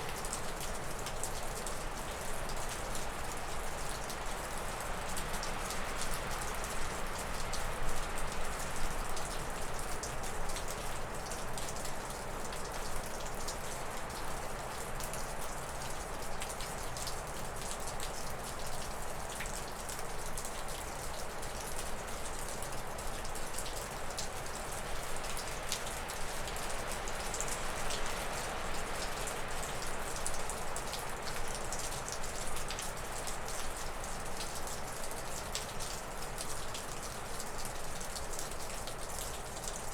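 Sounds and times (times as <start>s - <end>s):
water drips falling off roof: 0.0s - 39.9s.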